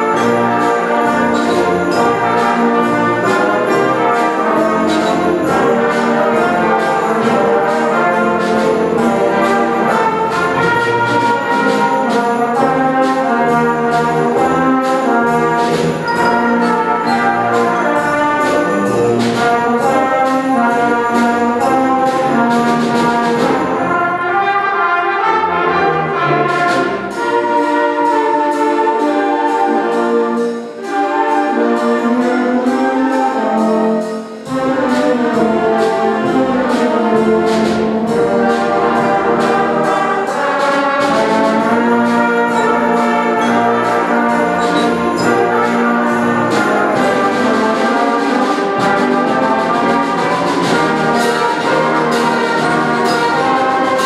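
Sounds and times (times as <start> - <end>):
concert band playing: 0.0 - 54.0.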